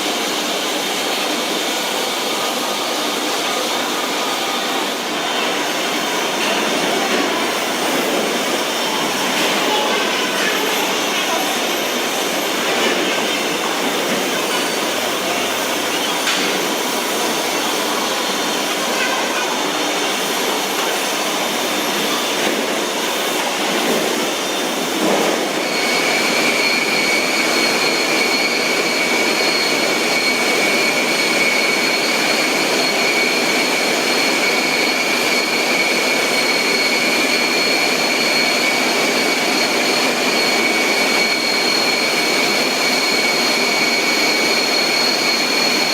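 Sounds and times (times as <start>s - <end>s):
high-pitched whine: 0.0s - 45.9s
machinery running: 0.1s - 45.9s.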